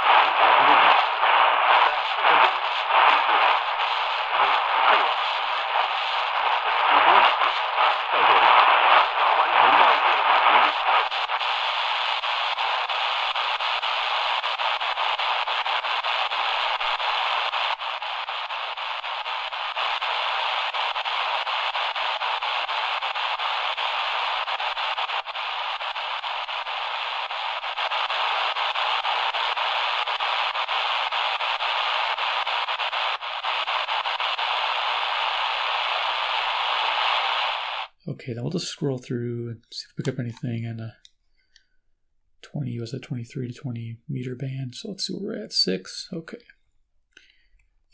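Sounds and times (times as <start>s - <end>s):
radio static hiss: 0.0s - 41.1s, 42.4s - 46.6s.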